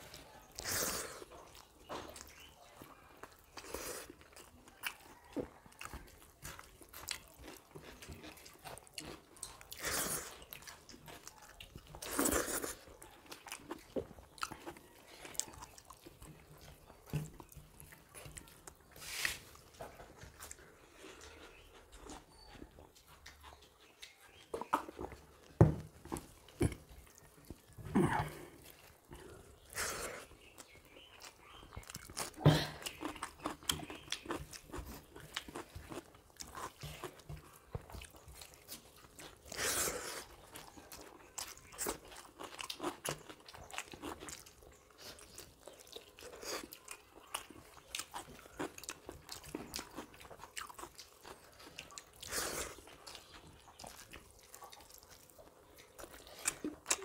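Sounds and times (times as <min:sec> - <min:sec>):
people chewing and smacking: 0:00.0 - 0:57.0.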